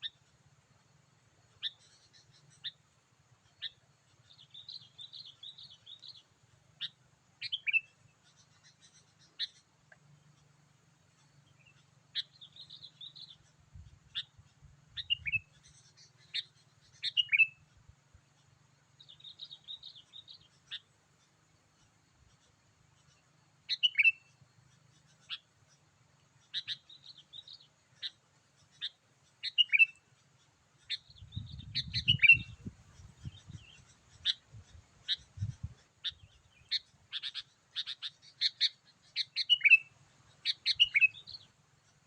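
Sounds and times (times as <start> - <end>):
bulbul calls: 1.5 - 42.0.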